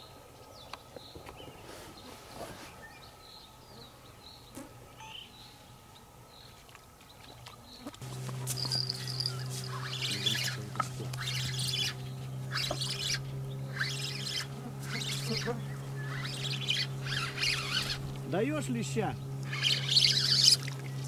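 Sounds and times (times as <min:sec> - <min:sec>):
steady low hum: 0:00.0 - 0:21.0
songbirds chirping and singing: 0:00.4 - 0:21.0.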